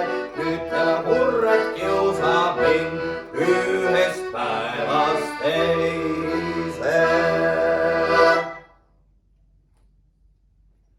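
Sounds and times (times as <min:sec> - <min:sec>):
accordion chords: 0:00.0 - 0:08.8.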